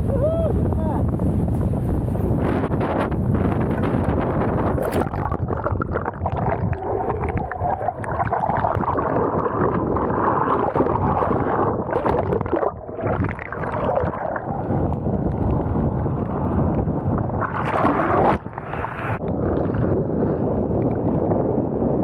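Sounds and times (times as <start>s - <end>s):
board and water noise: 0.0s - 22.0s
wind buffeting microphone: 0.0s - 22.0s.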